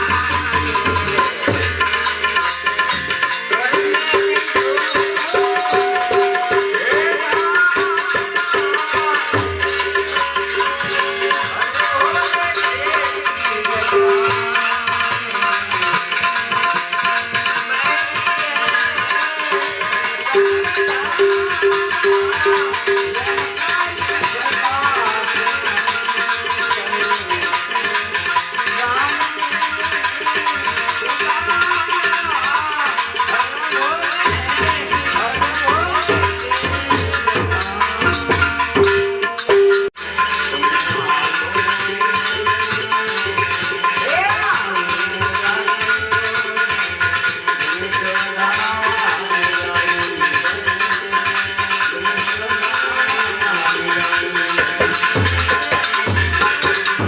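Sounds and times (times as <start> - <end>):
tabla drumming: 0.0 - 57.0.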